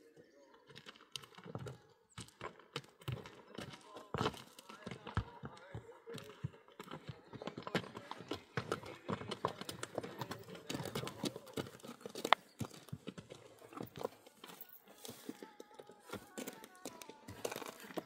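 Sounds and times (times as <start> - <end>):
hooves clopping on hard ground: 0.1 - 18.0.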